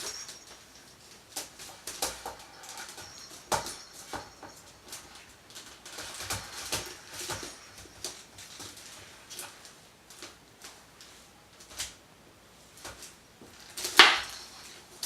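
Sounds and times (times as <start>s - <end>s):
basket crackling and clicking: 0.0s - 12.0s, 12.8s - 15.0s.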